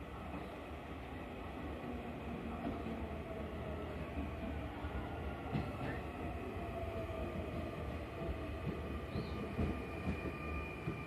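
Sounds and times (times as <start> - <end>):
electric train rumbling and whining: 0.0 - 11.0.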